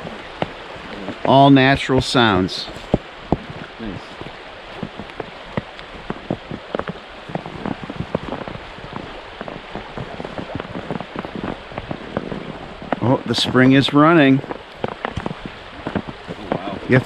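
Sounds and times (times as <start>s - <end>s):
water dripping: 0.0s - 17.0s
water splashing over rocks: 0.0s - 17.0s.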